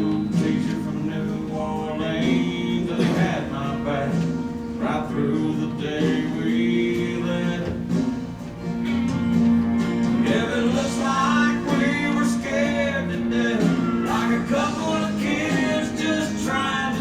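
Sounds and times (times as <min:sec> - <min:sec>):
person singing: 0:00.0 - 0:08.2, 0:10.1 - 0:17.0
acoustic guitar: 0:00.0 - 0:17.0.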